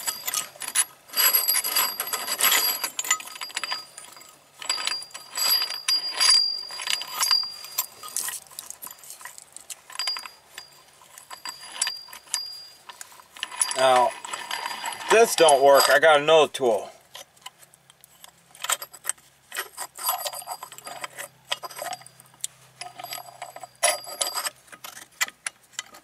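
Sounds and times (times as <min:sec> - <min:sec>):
metal tool clinking and rattling: 0:00.0 - 0:26.0.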